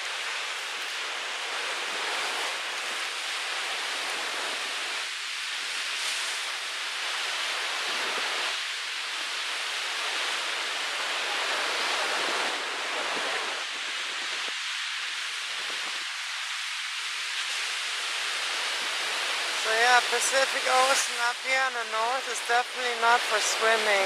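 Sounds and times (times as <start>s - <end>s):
ocean surf rushing: 0.0s - 24.0s
wind: 0.0s - 24.0s.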